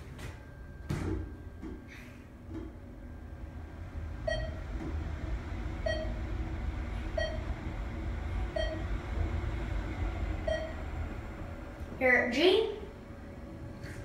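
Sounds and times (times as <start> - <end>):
elevator low rumble: 0.0 - 14.0.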